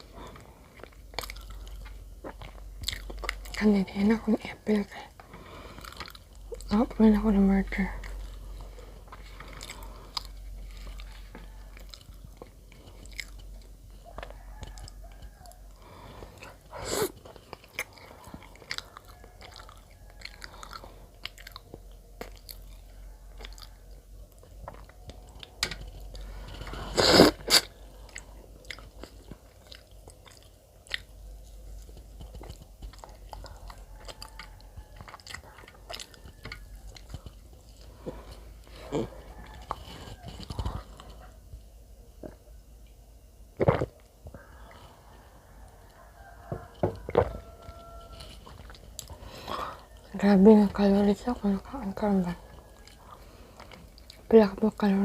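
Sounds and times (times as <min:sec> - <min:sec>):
chewing bread: 0:00.0 - 0:04.2, 0:04.8 - 0:42.5, 0:43.6 - 0:55.0.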